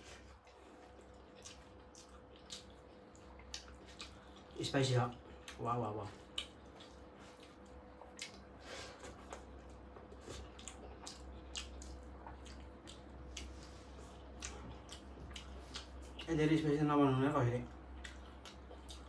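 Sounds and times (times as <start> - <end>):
person chewing food: 0.0 - 16.4, 17.7 - 19.0
faint steady hum: 0.0 - 19.0.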